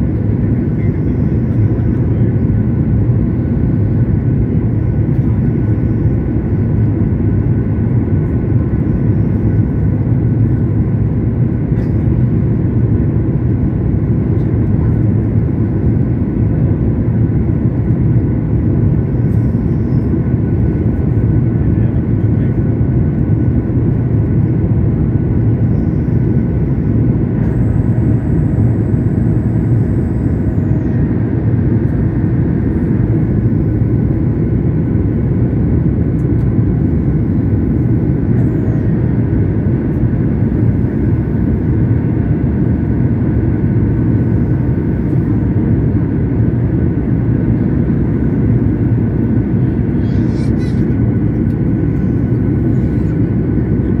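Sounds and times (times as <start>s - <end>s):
jet cabin rumble: 0.0s - 54.0s.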